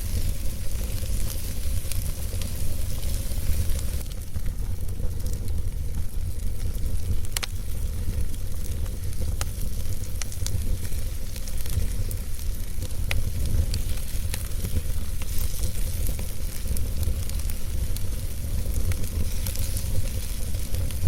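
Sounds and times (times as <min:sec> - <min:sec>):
burning logs crackling and popping: 0:00.0 - 0:21.0
fire flames rumbling: 0:00.0 - 0:21.0.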